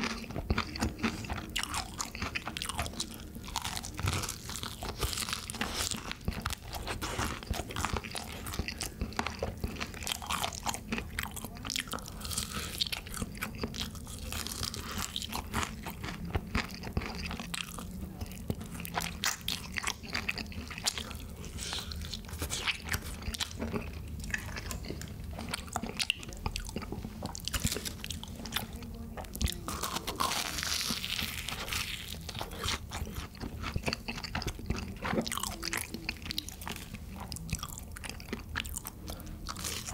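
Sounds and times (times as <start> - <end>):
chewing fried cheese ball: 0.0 - 39.9
crunching and chewing fried chicken: 0.0 - 39.9.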